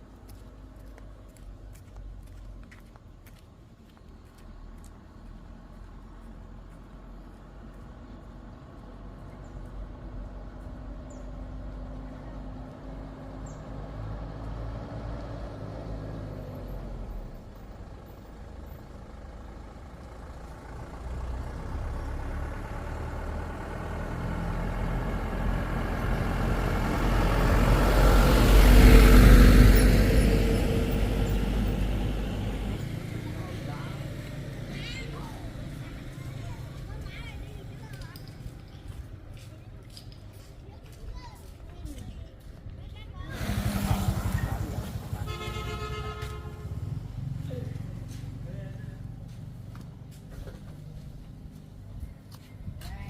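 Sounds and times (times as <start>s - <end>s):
vehicle engine passing by: 4.0s - 41.4s, 42.3s - 53.0s.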